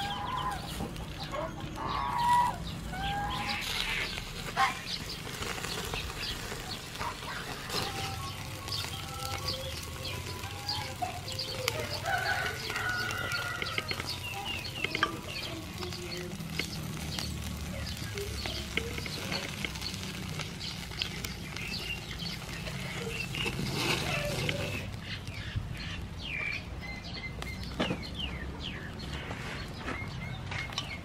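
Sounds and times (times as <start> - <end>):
chickens calling: 0.0 - 31.0
crackles and pops: 0.0 - 31.0
skewers sizzling on a grill: 0.0 - 31.0.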